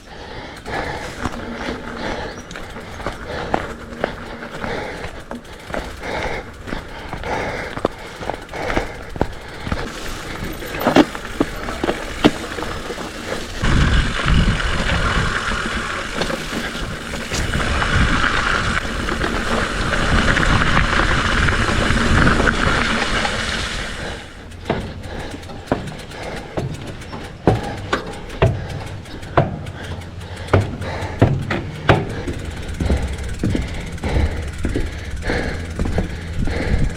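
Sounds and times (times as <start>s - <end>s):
bike knocks and rattles: 0.0s - 36.9s
bike tyres on dirt: 0.0s - 36.9s
steady rush: 0.0s - 36.9s.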